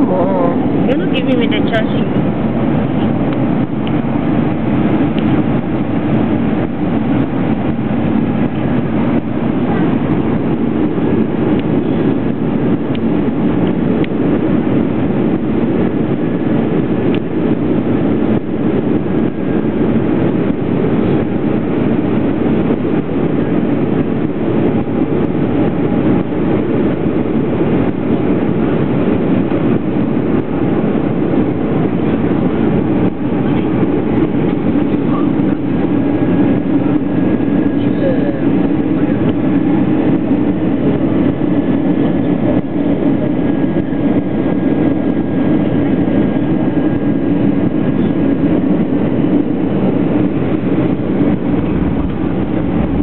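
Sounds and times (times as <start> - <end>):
airliner cabin engine roar: 0.0 - 53.0.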